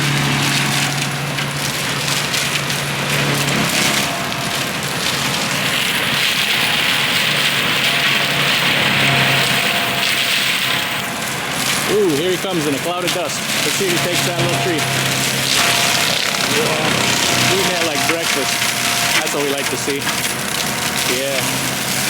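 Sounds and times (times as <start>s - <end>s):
engine droning: 0.0s - 22.0s
mulcher shredding brush and wood: 0.0s - 22.0s.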